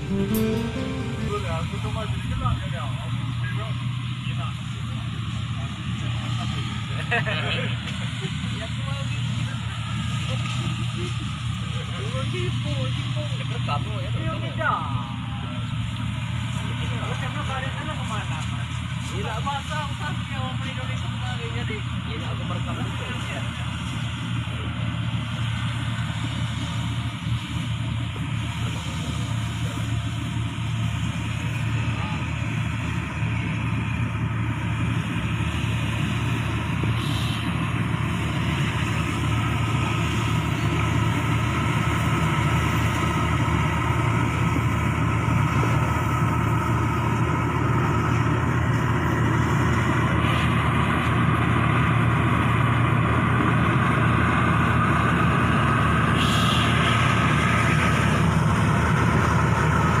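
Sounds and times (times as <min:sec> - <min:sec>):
combine harvester engine drone: 0:00.0 - 1:00.0.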